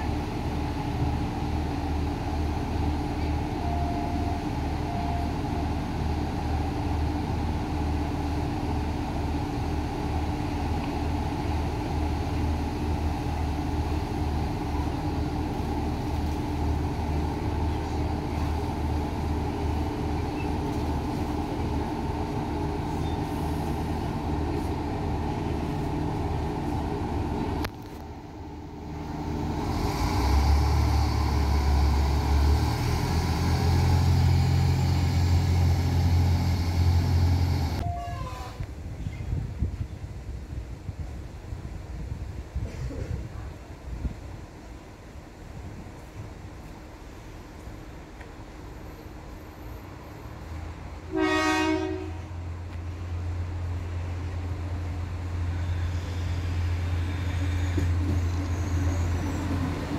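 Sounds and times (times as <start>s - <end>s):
diesel train engine idling: 0.0s - 38.1s, 43.6s - 59.9s
train engines revving: 0.0s - 38.8s, 44.5s - 59.9s.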